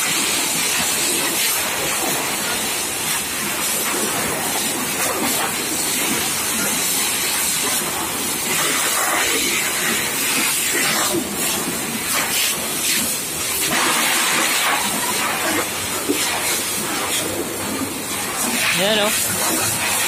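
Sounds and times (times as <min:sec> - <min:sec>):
water jet hissing on steel deck: 0:00.0 - 0:20.0
water splashing: 0:00.1 - 0:20.0.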